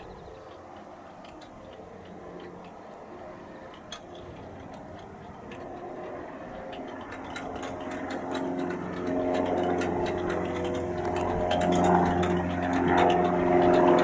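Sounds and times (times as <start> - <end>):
faint ticks: 0.0 - 14.0
light aircraft engine droning: 0.0 - 14.0.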